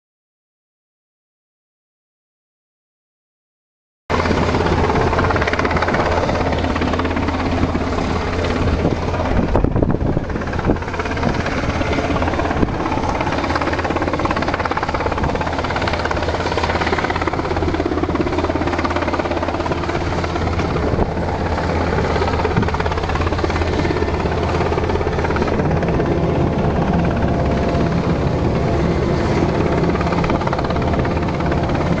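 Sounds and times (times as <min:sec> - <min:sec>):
engine drone: 0:04.1 - 0:32.0.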